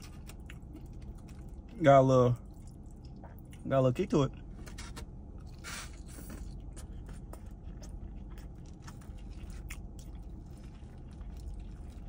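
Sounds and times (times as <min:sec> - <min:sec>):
person chewing food: 0:00.0 - 0:01.8, 0:02.4 - 0:03.7, 0:04.4 - 0:12.0
low steady rumble: 0:00.0 - 0:12.0.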